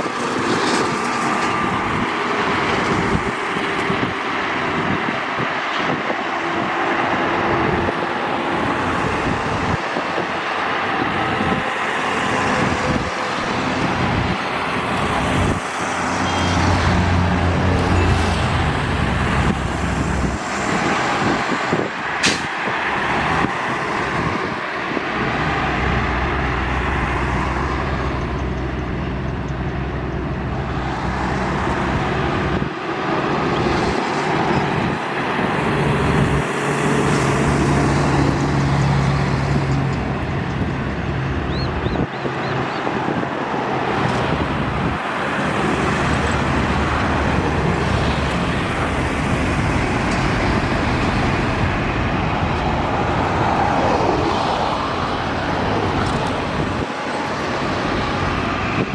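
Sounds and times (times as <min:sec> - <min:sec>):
truck passing: 0:00.0 - 0:58.9
vehicle engines droning: 0:00.0 - 0:58.9.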